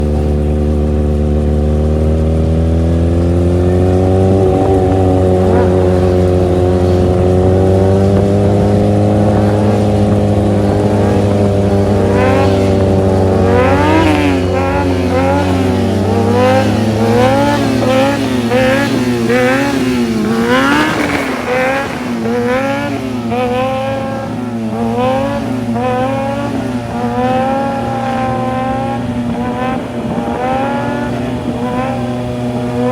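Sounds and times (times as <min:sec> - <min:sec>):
motorcycle engines revving: 0:00.0 - 0:32.9.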